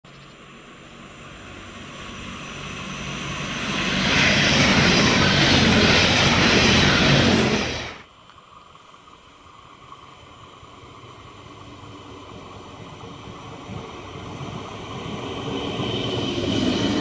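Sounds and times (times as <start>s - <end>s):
train passing at speed: 0.1s - 8.1s, 9.0s - 17.0s.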